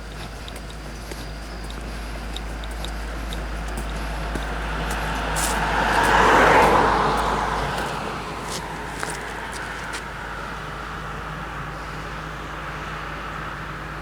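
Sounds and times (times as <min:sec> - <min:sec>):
road vehicle passing by: 0:00.0 - 0:14.0
steady background noise: 0:00.0 - 0:14.0.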